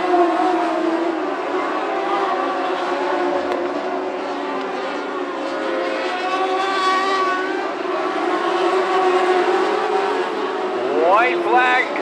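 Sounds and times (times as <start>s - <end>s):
race car engines at high revs: 0.0s - 12.0s.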